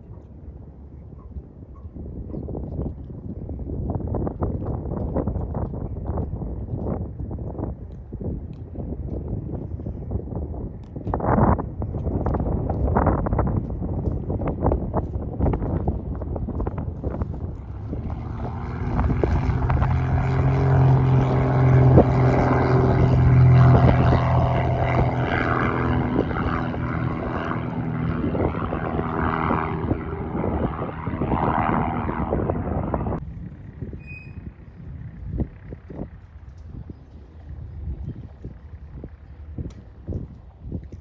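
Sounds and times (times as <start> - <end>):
propeller airplane engine droning: 0.0 - 41.0.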